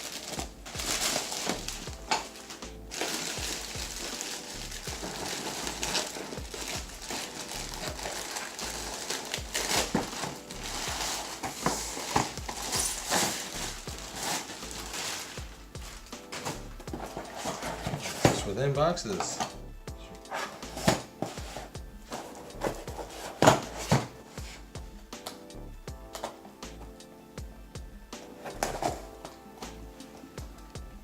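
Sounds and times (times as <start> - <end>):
packaging rustling and crinkling: 0.0 - 19.6, 20.2 - 24.6, 28.2 - 30.3
background music: 0.0 - 31.0.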